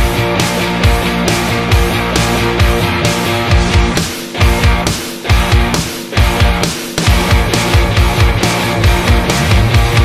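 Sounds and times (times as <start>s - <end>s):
distorted electric guitars: 0.0s - 10.0s
steady drum beat: 0.0s - 10.0s.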